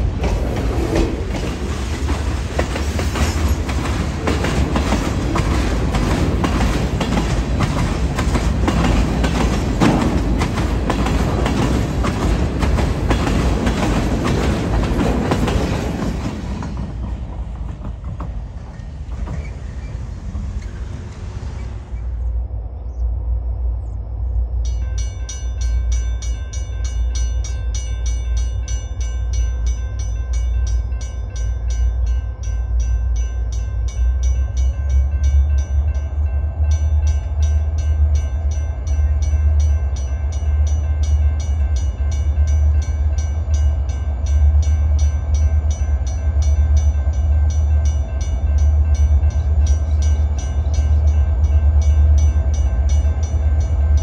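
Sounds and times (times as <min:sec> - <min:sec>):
diesel freight train rumble: 0:00.0 - 0:54.0.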